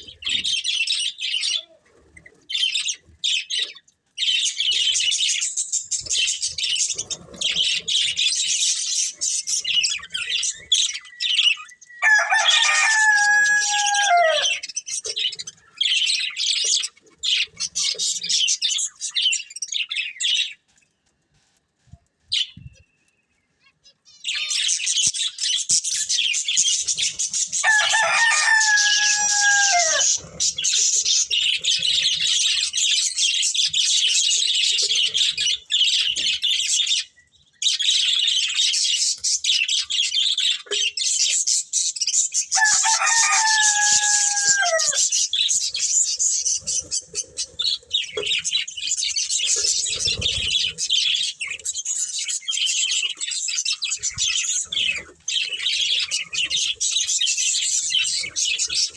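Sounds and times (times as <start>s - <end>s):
budgerigars chirping and chattering: 0.0s - 20.8s, 23.6s - 58.9s.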